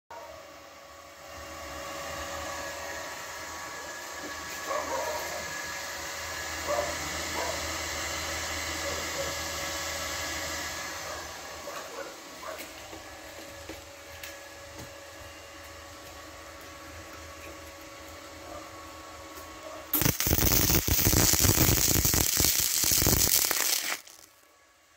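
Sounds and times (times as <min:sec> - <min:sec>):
welder cooling fan whirring: 0:00.2 - 0:24.9.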